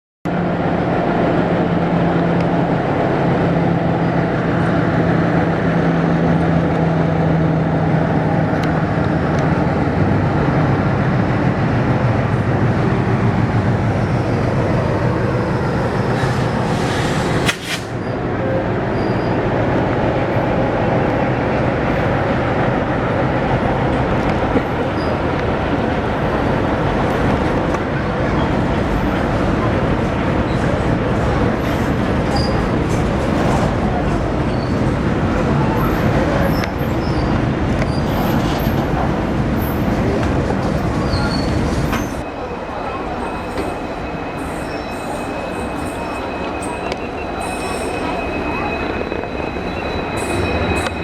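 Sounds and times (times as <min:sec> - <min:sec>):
train rumble and clatter: 0:00.3 - 0:51.0.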